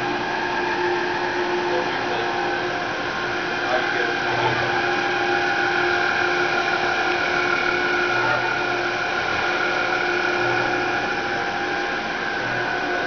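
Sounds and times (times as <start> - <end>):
industrial machine hum: 0.0 - 13.0
whining tones: 0.0 - 13.0.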